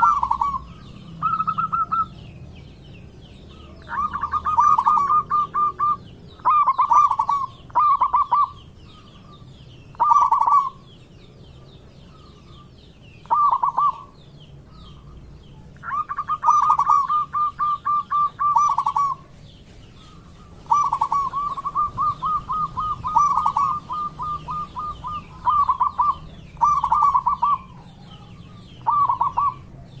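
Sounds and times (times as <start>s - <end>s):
dove cooing: 0.0s - 2.4s, 3.5s - 11.0s, 11.6s - 30.0s
small birds chirping: 0.0s - 30.0s.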